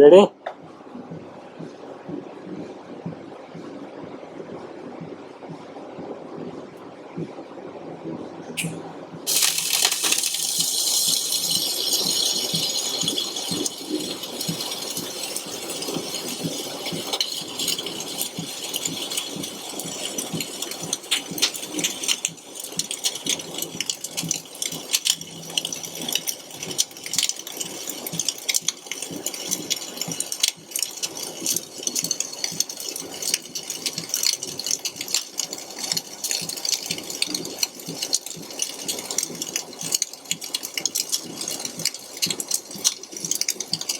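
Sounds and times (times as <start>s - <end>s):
welding arc crackling: 8.6s - 43.9s.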